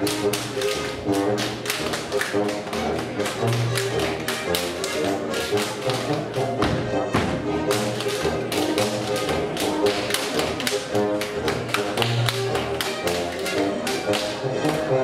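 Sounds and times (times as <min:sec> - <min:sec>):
brass band music: 0:00.0 - 0:15.0
dancers slapping and clapping: 0:00.0 - 0:15.0.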